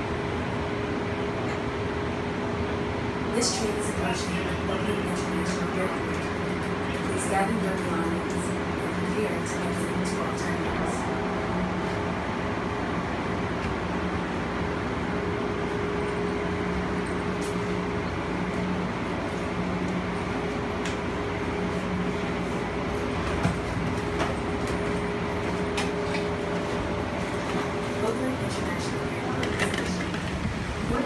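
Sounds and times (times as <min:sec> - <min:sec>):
train car running hum: 0:00.0 - 0:31.0.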